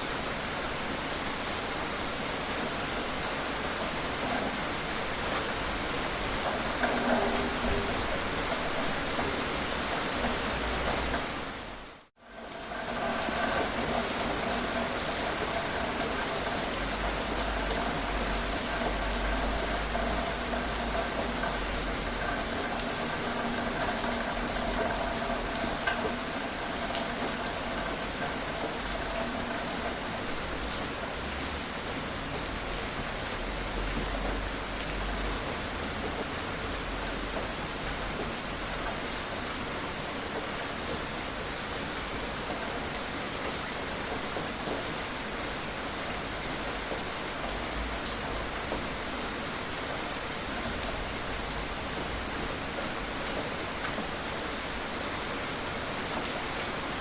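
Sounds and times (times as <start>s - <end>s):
gentle rain hissing: 0.0s - 57.0s.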